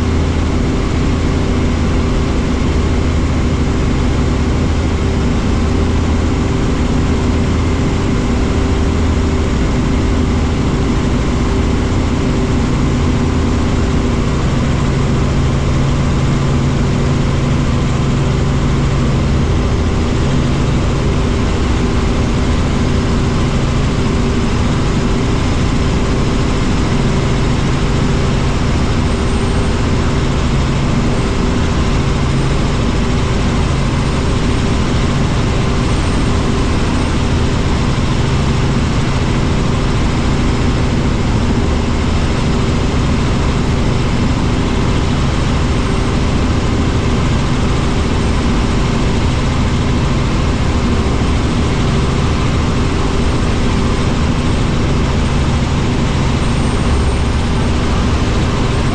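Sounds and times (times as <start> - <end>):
helicopter engine and rotor drone: 0.0 - 58.9.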